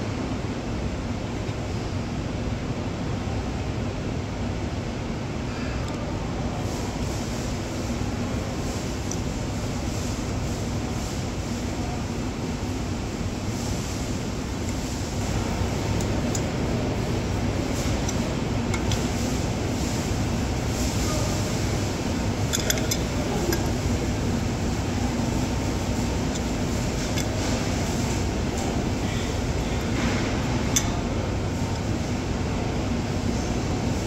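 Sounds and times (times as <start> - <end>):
faint hum: 0.0 - 34.0
low rumbling background noise: 0.0 - 34.0.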